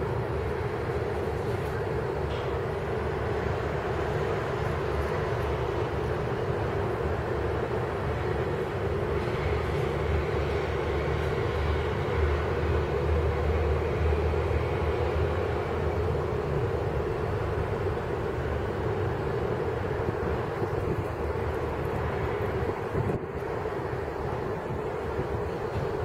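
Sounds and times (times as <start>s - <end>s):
constant hum: 0.0s - 26.0s.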